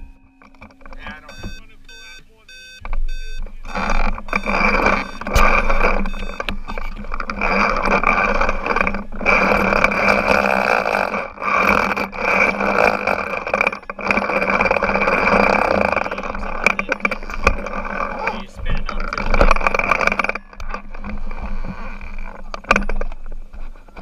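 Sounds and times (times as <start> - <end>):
small engine buzzing drone: 3.1 - 23.2.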